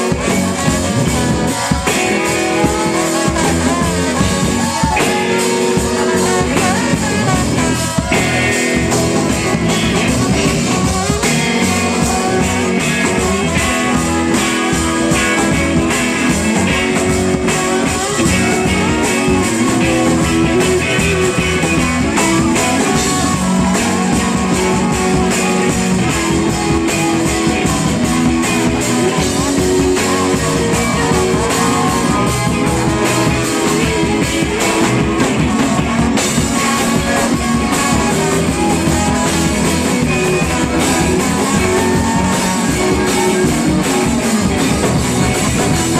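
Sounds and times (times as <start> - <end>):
electric guitar: 0.0 - 45.9
live rock band playing: 0.0 - 45.9.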